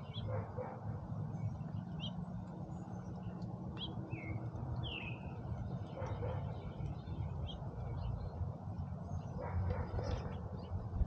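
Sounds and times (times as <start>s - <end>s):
low steady rumble: 0.0s - 11.0s
small songbirds chirping: 0.0s - 11.0s.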